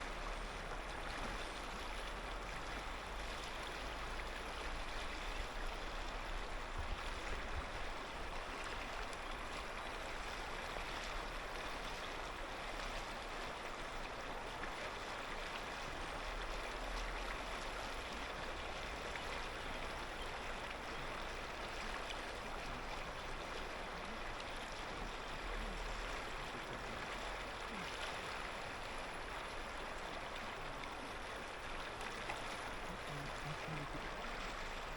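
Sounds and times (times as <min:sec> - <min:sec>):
river flowing over stones: 0:00.0 - 0:34.9.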